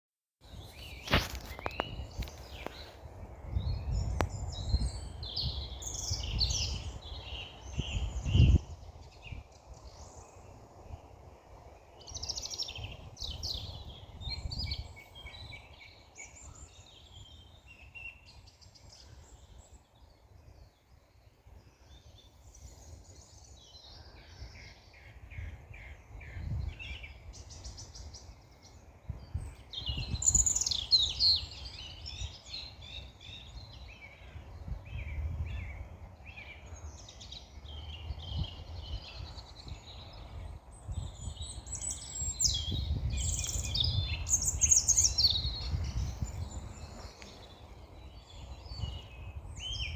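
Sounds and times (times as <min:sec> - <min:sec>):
small birds chirping: 0:00.5 - 0:49.9.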